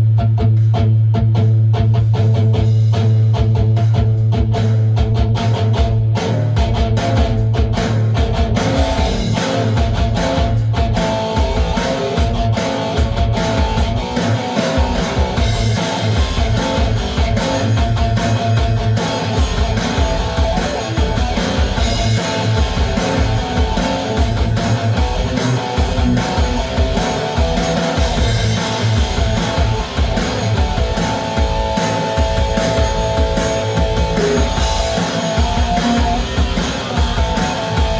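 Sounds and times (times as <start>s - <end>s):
electric guitar rock passage: 0.0s - 37.9s.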